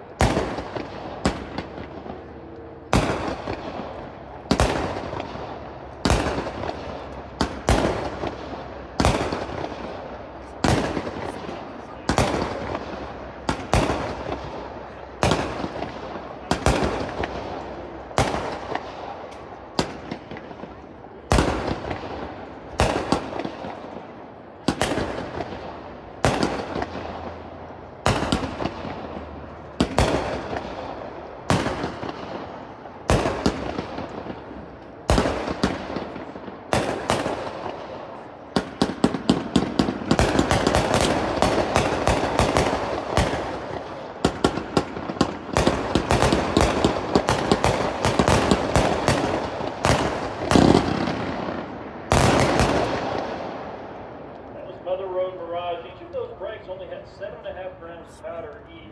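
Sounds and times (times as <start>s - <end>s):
firework bangs: 0.0s - 54.3s
firework barrage crackling: 0.0s - 55.2s.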